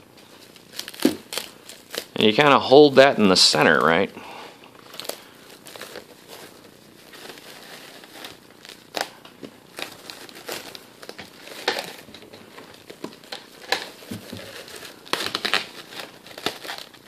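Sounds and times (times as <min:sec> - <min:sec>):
cling wrap crinkling: 0:00.0 - 0:17.0
cling wrap snapping: 0:00.2 - 0:04.0, 0:04.6 - 0:17.0.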